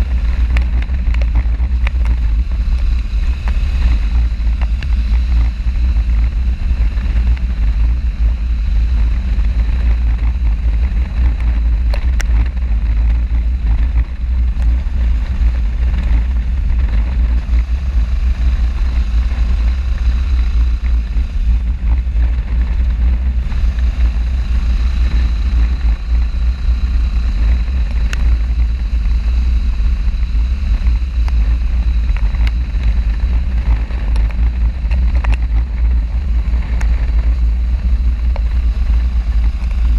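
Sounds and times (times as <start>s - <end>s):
motorcycle engine drone: 0.0s - 39.9s
wind rumble on microphone: 0.0s - 39.9s.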